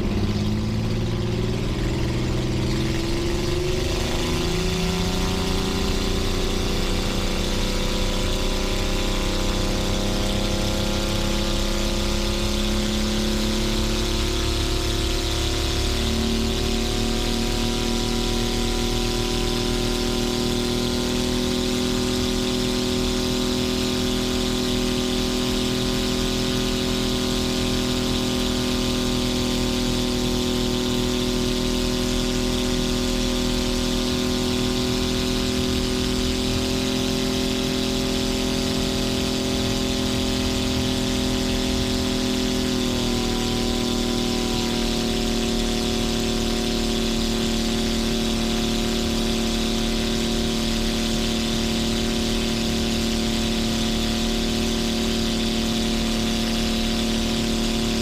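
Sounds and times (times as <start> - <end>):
aircraft engine growling: 0.0 - 58.0.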